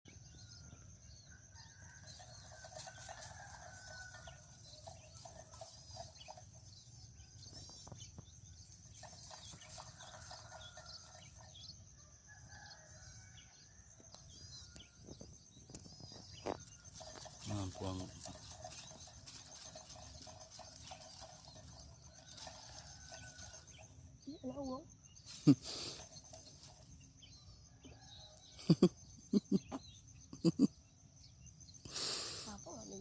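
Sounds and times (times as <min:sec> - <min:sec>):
small birds chirping: 0:00.1 - 0:12.9, 0:14.1 - 0:33.0
low clucking bird calls: 0:01.6 - 0:11.8, 0:14.1 - 0:33.0.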